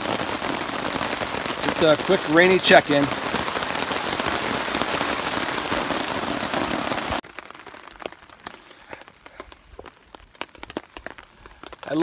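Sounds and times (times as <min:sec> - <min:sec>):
heavy rain on a tarp: 0:00.0 - 0:12.0.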